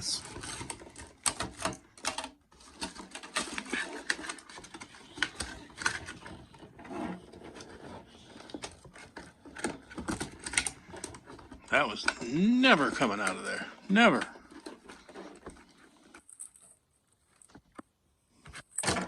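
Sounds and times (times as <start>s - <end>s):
plastic packaging rustling: 0.0s - 17.8s.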